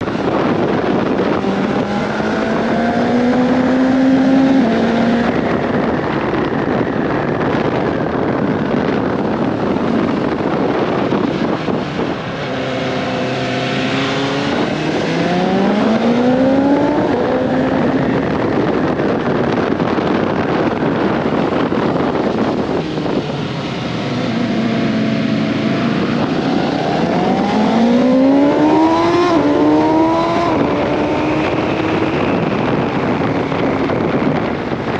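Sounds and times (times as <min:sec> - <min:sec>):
motorcycle engine revving: 0:00.0 - 0:34.9
wind noise: 0:00.0 - 0:34.9.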